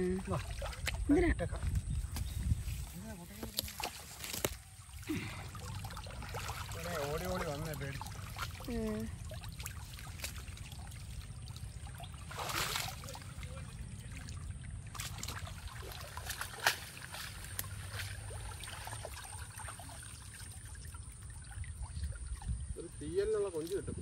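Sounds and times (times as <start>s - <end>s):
water splashing and trickling: 0.0s - 24.0s.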